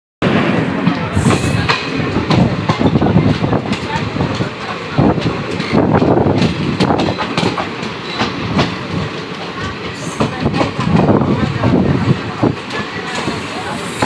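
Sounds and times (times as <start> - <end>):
train coaches rushing past: 0.2 - 14.0
train wheels clacking over rail joints: 0.8 - 14.0.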